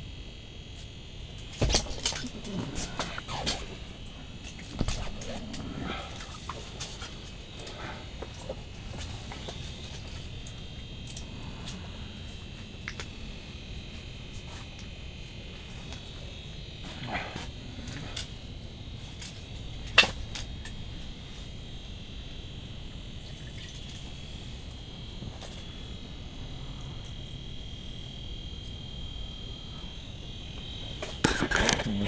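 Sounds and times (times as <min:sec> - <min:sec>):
high-pitched whine: 0:00.0 - 0:32.0.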